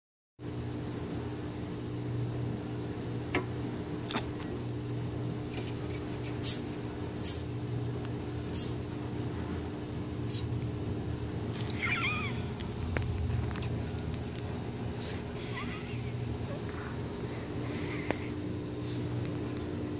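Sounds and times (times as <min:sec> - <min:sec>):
low machine hum: 0:00.4 - 0:19.9.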